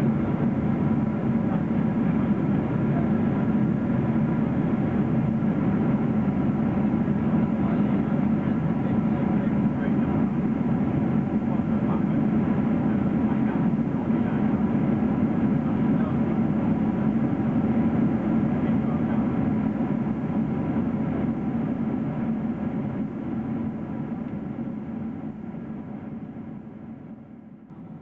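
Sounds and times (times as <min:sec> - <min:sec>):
airplane cabin roar: 0:00.0 - 0:28.0.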